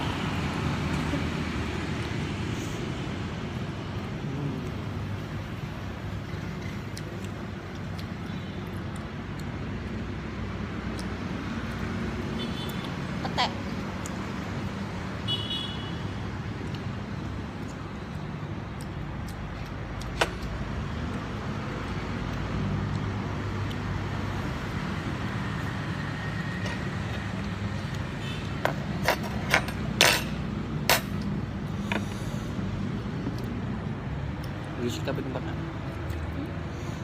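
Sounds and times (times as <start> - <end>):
road traffic passing: 0.0 - 37.0.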